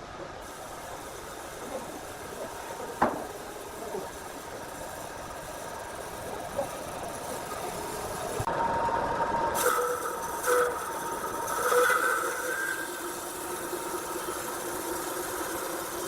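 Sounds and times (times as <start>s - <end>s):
mechanical running noise with hiss: 0.0s - 16.0s.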